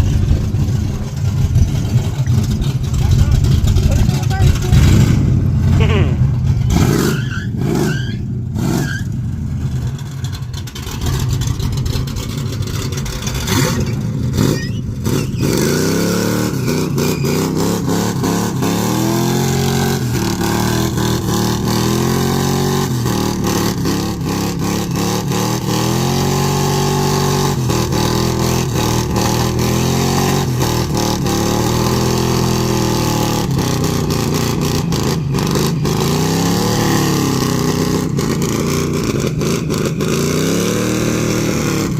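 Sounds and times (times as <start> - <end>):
engine revving in burnout: 0.0 - 41.9.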